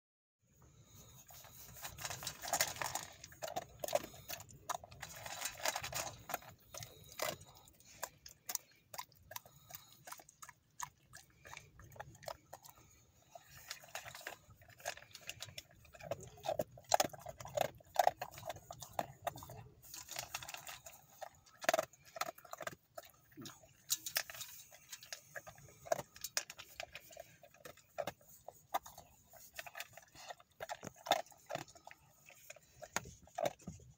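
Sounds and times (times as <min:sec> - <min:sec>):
dog eating from metal bowl: 0:00.6 - 0:33.9.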